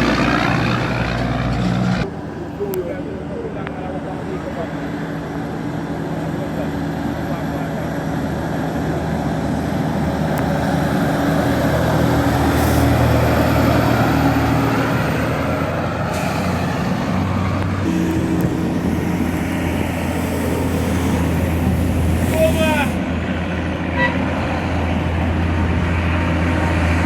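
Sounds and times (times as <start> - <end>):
tyre and road noise: 0.0 - 2.4, 7.4 - 27.0
heavy vehicle engine running: 0.0 - 27.0.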